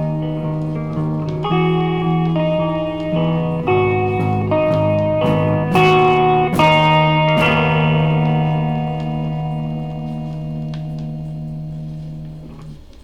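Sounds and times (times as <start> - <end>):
instrumental bedroom pop music: 0.0 - 13.0.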